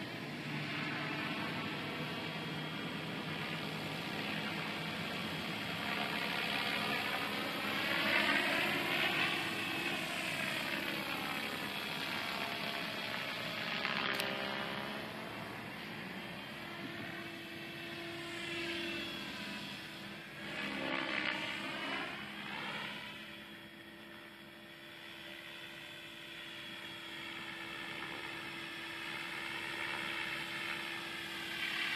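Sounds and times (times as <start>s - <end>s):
helicopter motor and rotor whine: 0.0s - 31.9s.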